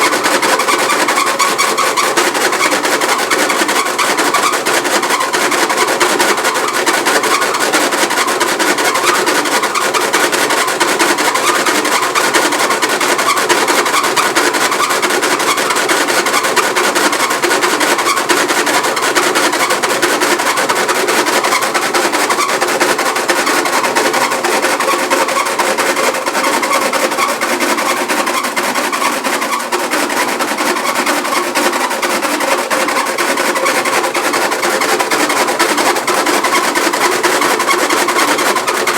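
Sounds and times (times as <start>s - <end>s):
washing machine rattling and knocking: 0.0s - 38.9s.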